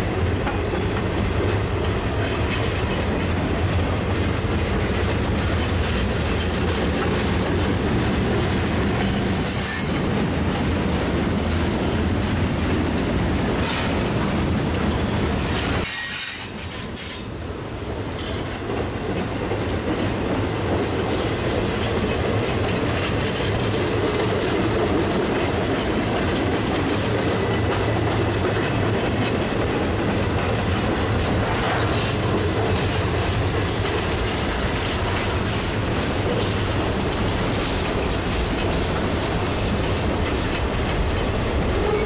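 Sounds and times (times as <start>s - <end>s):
train wheels rumbling and clicking: 0.0s - 42.0s.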